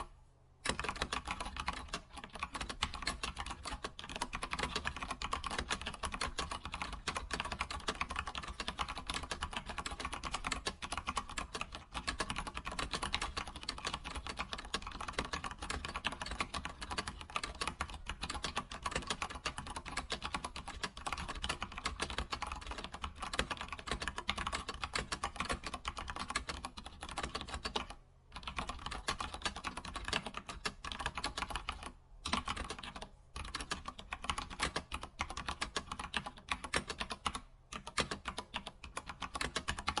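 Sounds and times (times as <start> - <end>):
keyboard typing: 0.0 - 40.0.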